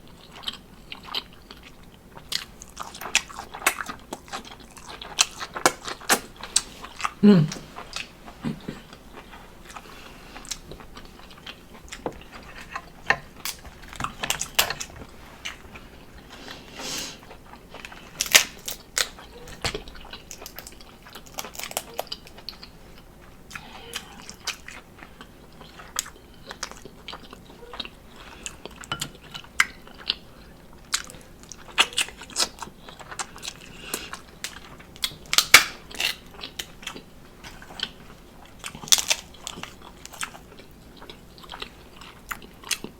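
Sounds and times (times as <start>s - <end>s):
person chewing and biting: 0.1s - 16.4s, 17.2s - 42.9s.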